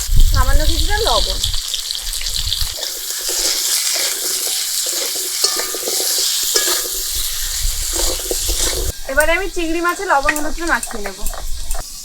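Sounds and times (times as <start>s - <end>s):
potatoes sizzling in hot oil: 0.0s - 12.0s
spatula scraping a pan: 1.8s - 12.0s.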